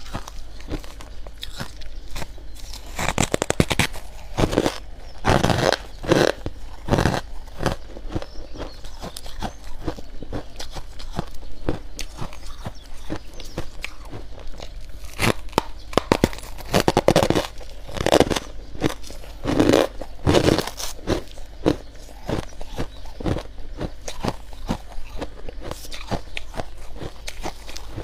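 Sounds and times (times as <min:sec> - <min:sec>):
frost being chewed: 0:00.0 - 0:28.0.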